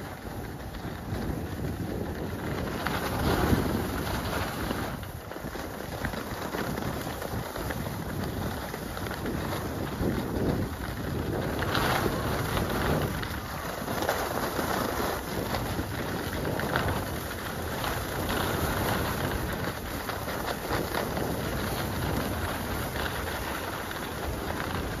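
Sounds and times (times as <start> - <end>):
skis scraping over packed snow: 0.0 - 25.0
wind rushing over microphone: 0.0 - 25.0.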